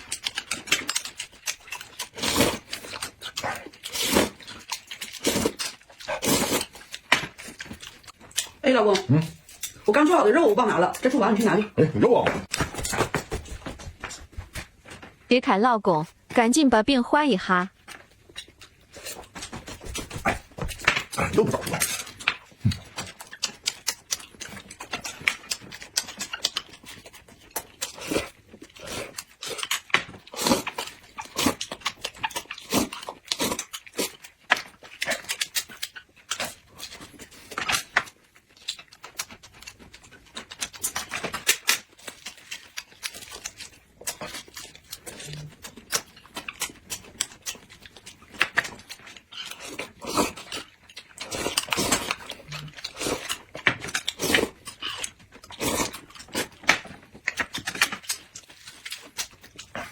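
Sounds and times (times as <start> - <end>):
chewing and lip-smacking: 0.0 - 11.8, 17.7 - 59.9.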